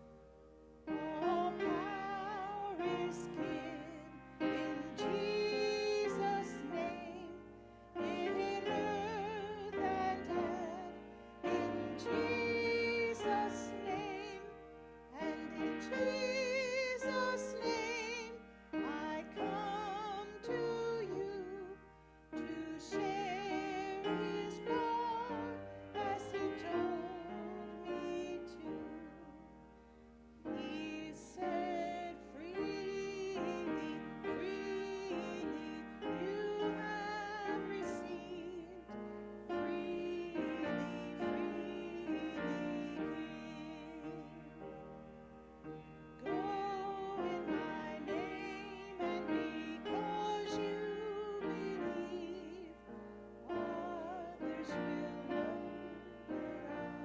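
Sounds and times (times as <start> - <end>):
piano accompaniment: 0.0 - 57.0
hymn sung with vibrato: 0.9 - 57.0.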